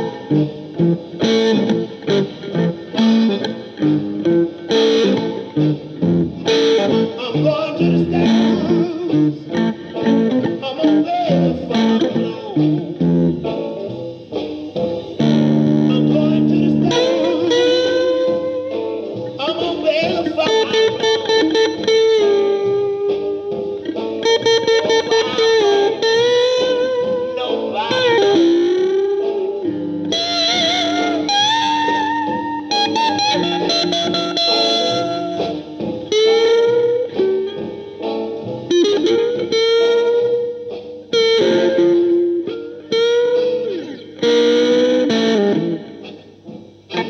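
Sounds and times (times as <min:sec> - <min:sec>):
electric guitar through amplifier: 0:00.0 - 0:47.0.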